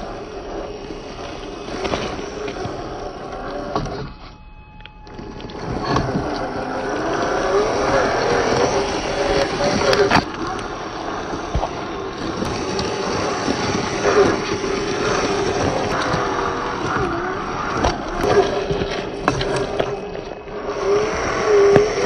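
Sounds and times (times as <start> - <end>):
electric motor and gearbox whine: 0.0 - 22.0
knocks and clicks over rough ground: 0.0 - 22.0.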